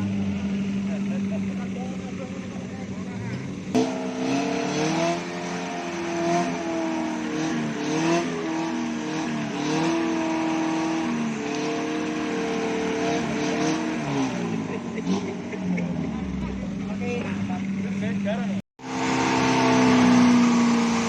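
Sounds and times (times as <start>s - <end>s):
car engine under load: 0.0s - 21.0s.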